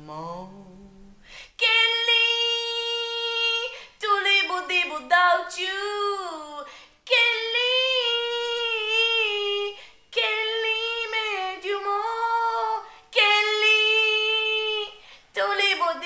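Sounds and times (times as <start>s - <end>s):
woman singing unaccompanied: 0.8s - 16.0s.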